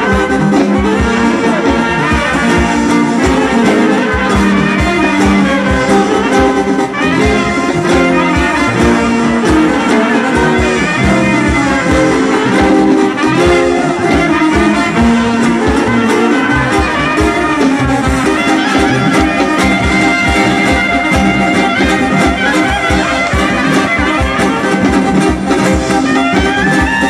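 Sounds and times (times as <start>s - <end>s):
brass band folk dance music: 0.0s - 27.0s.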